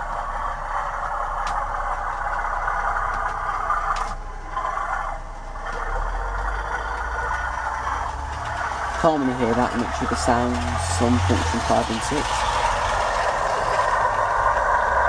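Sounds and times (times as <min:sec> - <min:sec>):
diesel engine sound from small speaker: 0:00.0 - 0:15.0.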